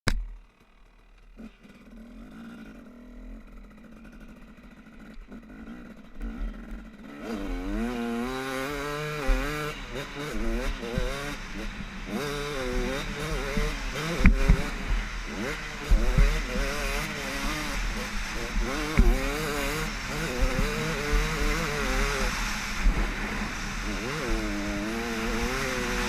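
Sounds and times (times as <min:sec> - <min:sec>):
motocross bike engine revving: 0:00.3 - 0:26.0.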